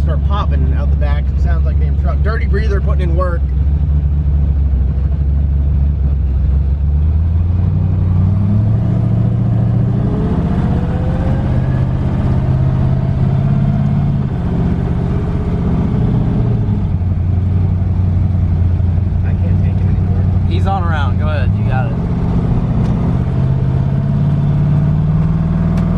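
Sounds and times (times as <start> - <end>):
car engine rumbling: 0.0 - 25.9.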